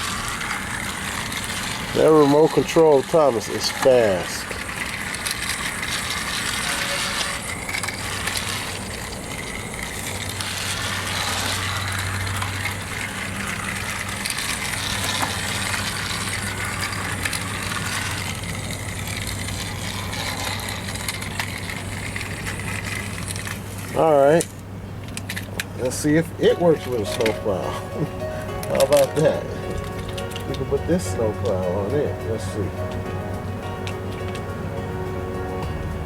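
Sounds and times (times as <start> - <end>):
wheels rattling on plastic track: 0.0 - 32.7
toy train motor whirring: 0.0 - 34.6.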